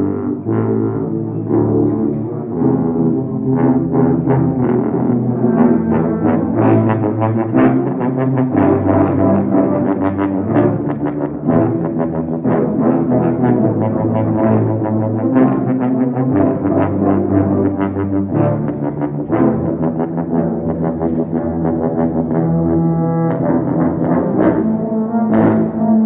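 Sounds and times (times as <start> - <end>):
low brass ensemble playing: 0.0 - 26.0.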